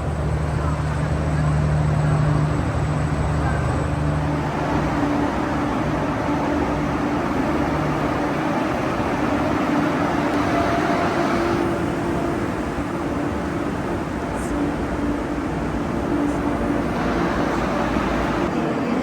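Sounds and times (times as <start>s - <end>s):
passenger train rumbling: 0.0s - 19.0s.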